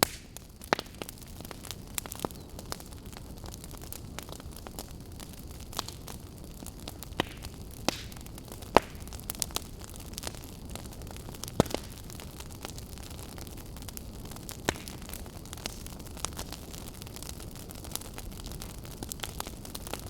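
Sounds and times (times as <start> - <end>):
burning wood crackling and popping: 0.0 - 20.0
campfire low rumble: 0.0 - 20.0.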